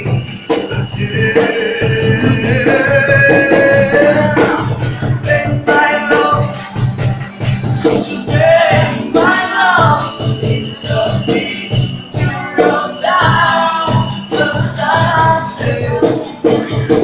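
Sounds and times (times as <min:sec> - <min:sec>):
person singing: 0:00.0 - 0:06.8, 0:07.9 - 0:17.0
shaken percussion beat: 0:00.0 - 0:17.0.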